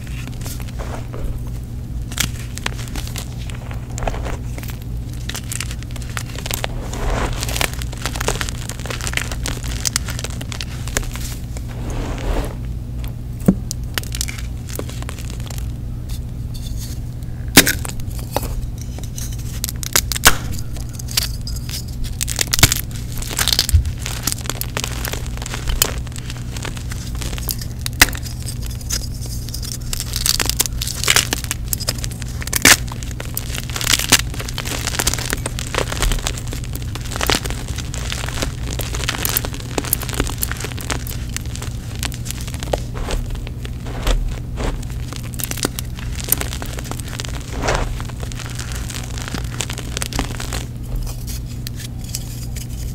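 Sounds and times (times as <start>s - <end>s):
chalk crunching by hand: 0.0s - 12.7s, 20.2s - 52.9s
low hum: 0.0s - 52.9s.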